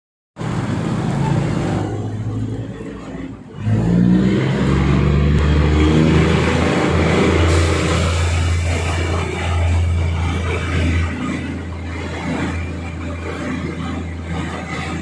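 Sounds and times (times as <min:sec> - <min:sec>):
diesel train engine running: 0:00.4 - 0:15.0.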